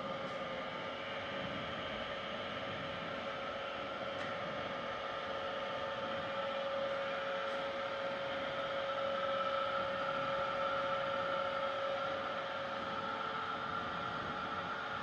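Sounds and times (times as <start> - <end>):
drilling machine humming and whining: 0.0 - 15.0.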